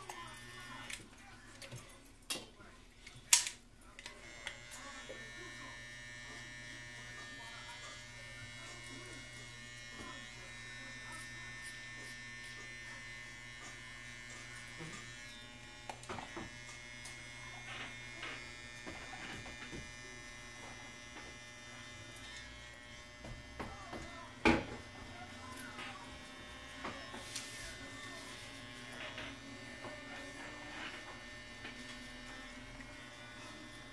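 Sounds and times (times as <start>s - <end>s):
hair clipper buzzing: 0.0s - 1.9s, 3.0s - 33.9s.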